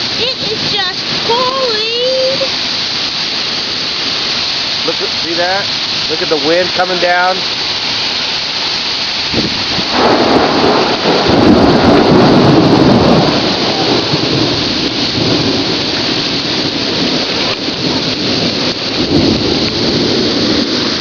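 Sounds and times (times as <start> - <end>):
heavy rain in strong wind: 0.0 - 21.0.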